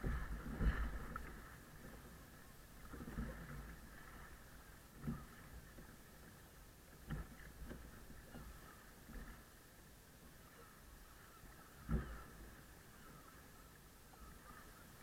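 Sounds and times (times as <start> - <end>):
soft low paddle knocks: 0.0 - 9.5, 11.4 - 15.0.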